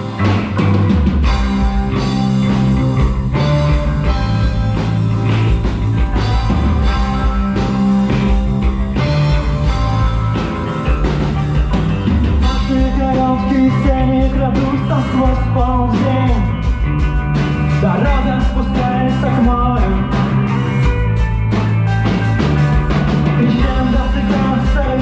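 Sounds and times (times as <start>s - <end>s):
bending melodic line: 0.0s - 25.0s
sustained bass notes: 0.0s - 25.0s.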